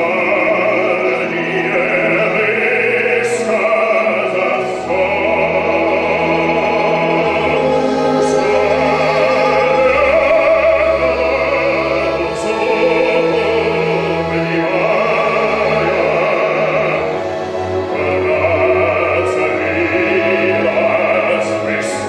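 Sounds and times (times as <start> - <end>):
operatic baritone singing: 0.0 - 22.0
symphony orchestra with strings: 0.0 - 22.0.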